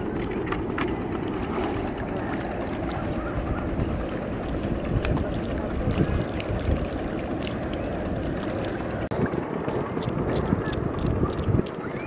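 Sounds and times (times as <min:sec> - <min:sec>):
water splashing and dripping: 0:00.0 - 0:11.9
wind buffeting microphone: 0:00.0 - 0:12.0.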